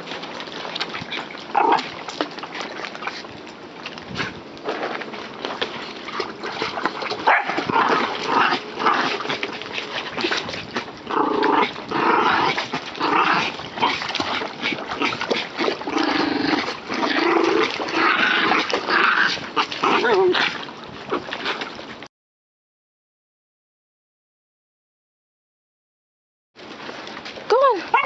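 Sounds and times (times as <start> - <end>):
dog paddling splashing: 0.0 - 22.1, 26.6 - 28.0.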